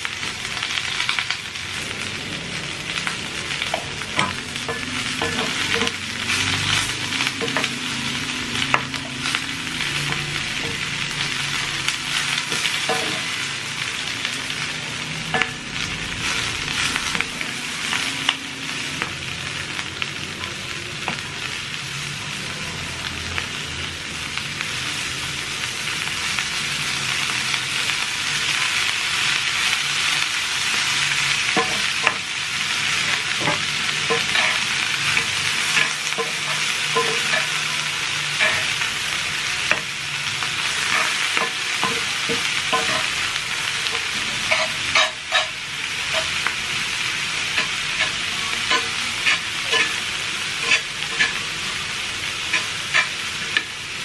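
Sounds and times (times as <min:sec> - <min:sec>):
vegetables sizzling in a skillet: 0:00.0 - 0:54.0.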